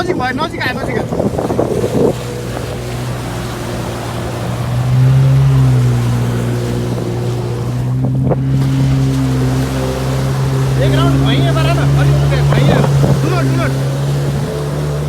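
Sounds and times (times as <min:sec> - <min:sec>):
jet ski engine running: 0:00.0 - 0:15.0
water splashing: 0:00.0 - 0:15.0
wind: 0:00.0 - 0:15.0.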